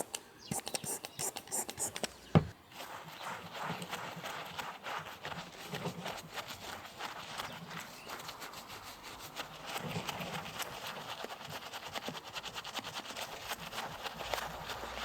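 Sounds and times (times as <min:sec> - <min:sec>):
brush scrubbing mud: 0:00.0 - 0:15.0.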